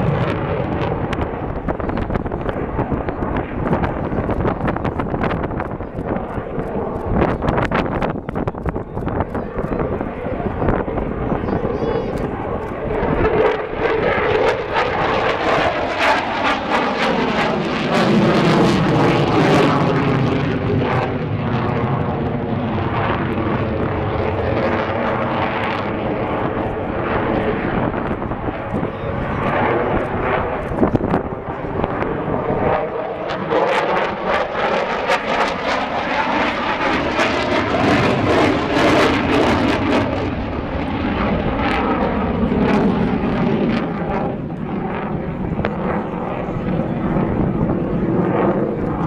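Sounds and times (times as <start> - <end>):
jet fighter flying overhead: 0.0 - 49.0.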